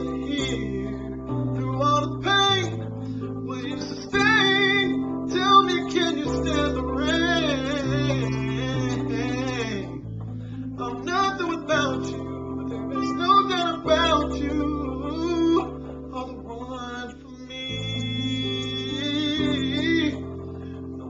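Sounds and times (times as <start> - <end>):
man singing: 0.0 - 10.1, 10.8 - 21.0
chordal accompaniment: 0.0 - 21.0.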